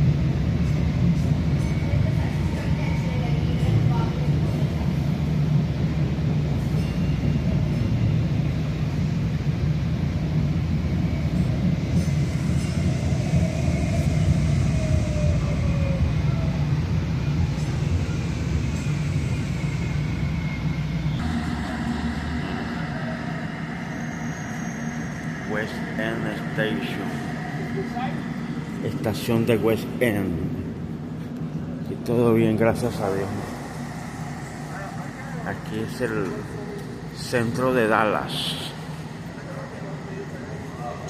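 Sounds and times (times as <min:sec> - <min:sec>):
faint gliding whines: 0:00.0 - 0:41.0
train rumbling: 0:00.0 - 0:41.0.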